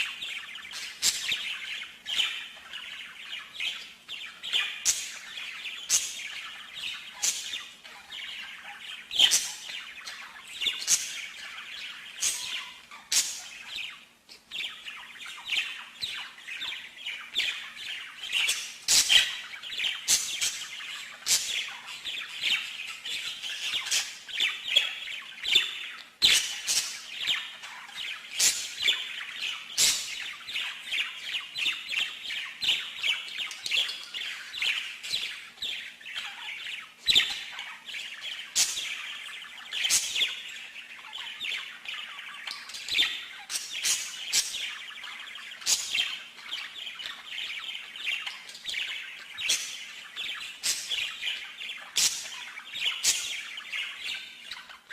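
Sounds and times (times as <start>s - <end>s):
songbird chirping and trilling: 0.0s - 54.9s.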